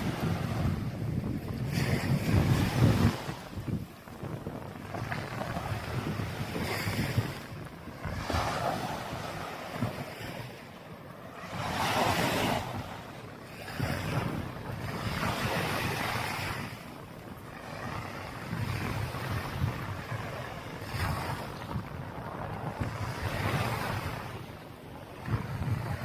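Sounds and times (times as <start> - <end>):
waves washing onto beach: 0.0 - 26.0
wind rumbling on microphone: 0.0 - 26.0.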